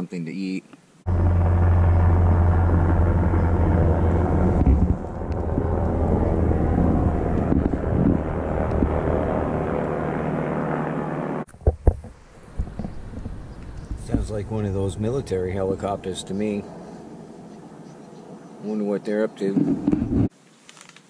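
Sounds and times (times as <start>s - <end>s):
helicopter rotor drone: 1.1s - 11.5s, 12.4s - 20.2s.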